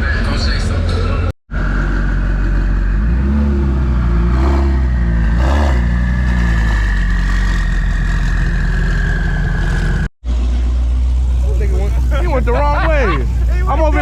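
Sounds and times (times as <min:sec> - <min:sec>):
car engine revving and idling: 0:00.7 - 0:14.0.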